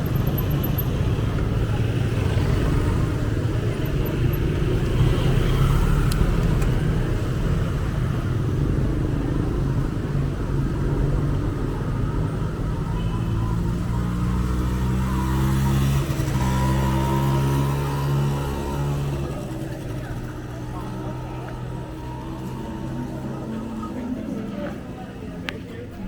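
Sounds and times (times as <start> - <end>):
motor traffic rumble: 0.0 - 26.0.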